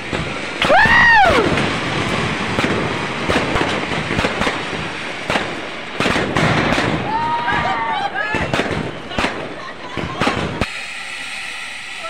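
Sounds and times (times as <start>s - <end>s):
fireworks popping and crackling: 0.0s - 12.0s
whistling firework: 0.0s - 12.0s.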